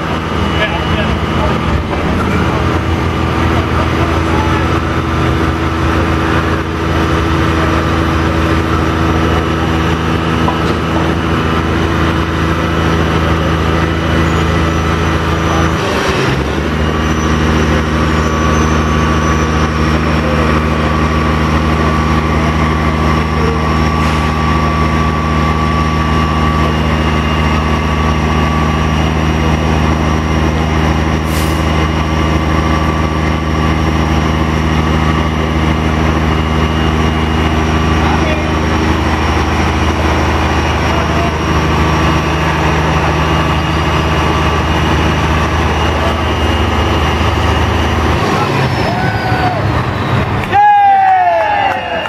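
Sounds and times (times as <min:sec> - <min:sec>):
truck engine droning: 0:00.0 - 0:52.0.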